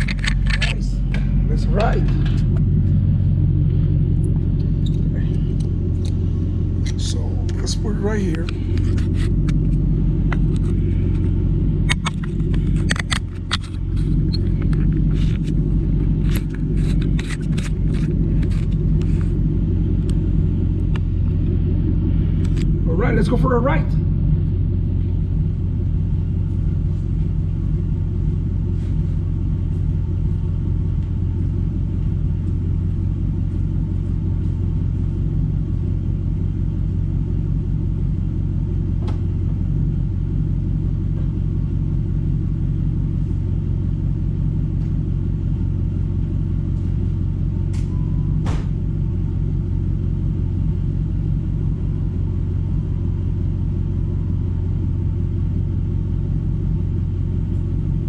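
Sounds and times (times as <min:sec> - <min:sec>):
car engine exhaust running steadily: 0:00.0 - 0:58.0.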